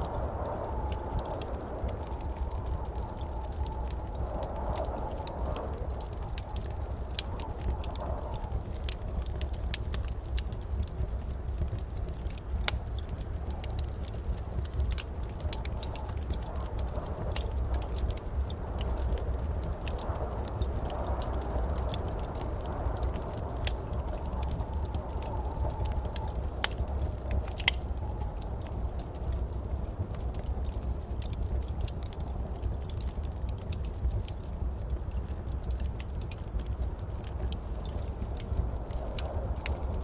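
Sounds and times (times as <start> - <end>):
low rumble of flames: 0.0 - 40.0
wood fire crackling and popping: 0.0 - 40.0.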